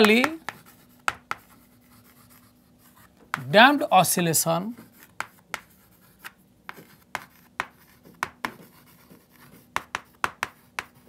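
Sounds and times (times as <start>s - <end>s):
chalk tapping and scraping: 0.0s - 3.8s, 4.7s - 11.0s.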